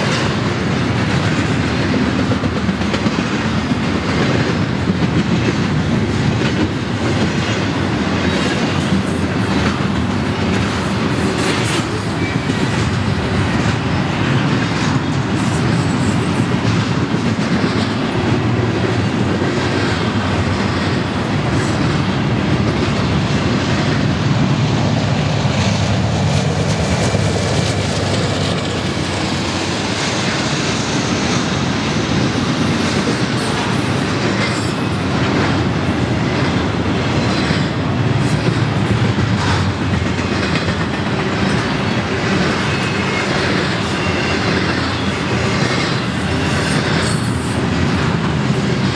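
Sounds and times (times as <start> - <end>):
freight train rumbling past: 0.0 - 48.9
wheels clacking over rail joints: 0.0 - 48.9.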